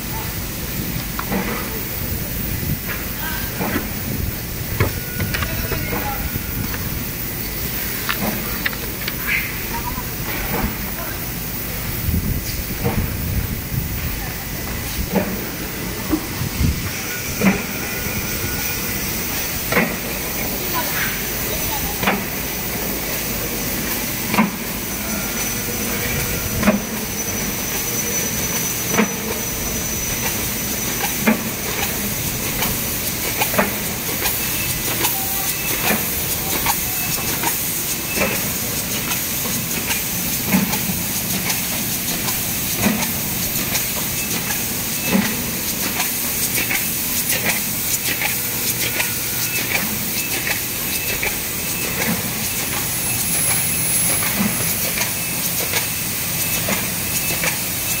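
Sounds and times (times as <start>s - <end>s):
machine hissing: 0.0s - 58.0s.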